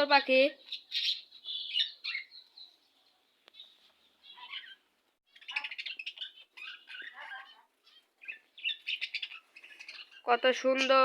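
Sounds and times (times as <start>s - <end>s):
budgerigars chirping and chattering: 0.1s - 11.0s.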